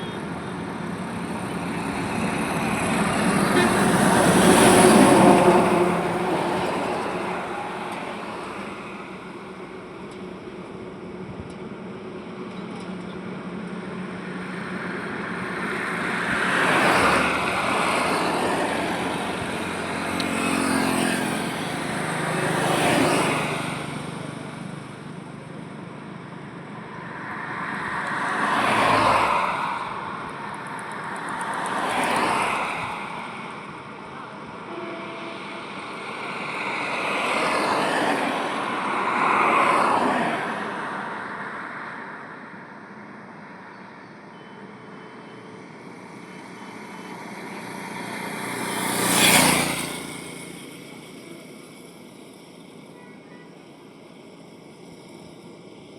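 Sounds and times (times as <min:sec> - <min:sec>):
vehicles passing on highway: 0:00.0 - 0:55.9.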